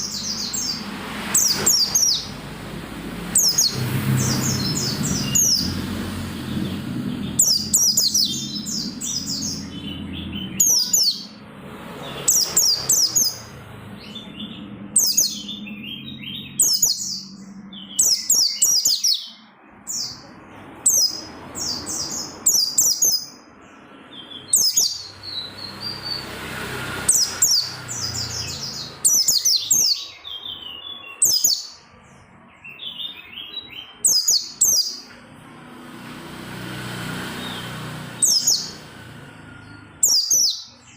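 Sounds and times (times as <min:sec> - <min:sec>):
bird twittering: 0:00.0 - 0:02.4, 0:03.3 - 0:11.4, 0:12.0 - 0:31.9, 0:32.6 - 0:35.1, 0:37.3 - 0:40.9.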